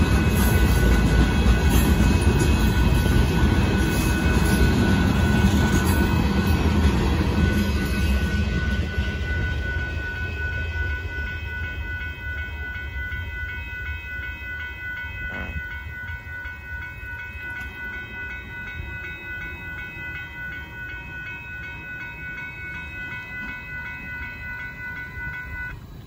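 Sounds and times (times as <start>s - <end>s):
freight train rumble: 0.0s - 26.0s
railroad crossing bell ringing: 0.0s - 26.0s.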